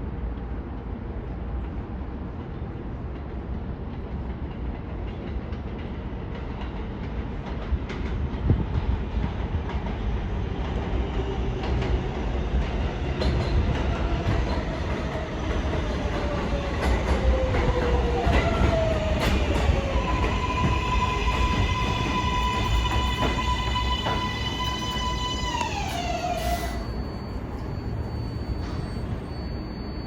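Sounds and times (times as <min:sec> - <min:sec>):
subway train rumbling: 0:00.0 - 0:30.0.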